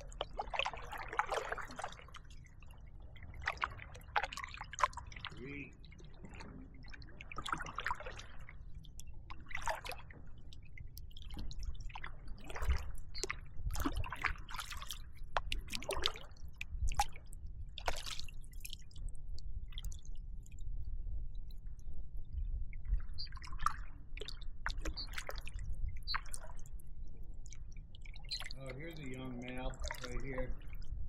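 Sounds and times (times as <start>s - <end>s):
small water splashes: 0.0s - 20.6s, 22.8s - 31.0s
water lapping and dripping: 0.0s - 31.0s.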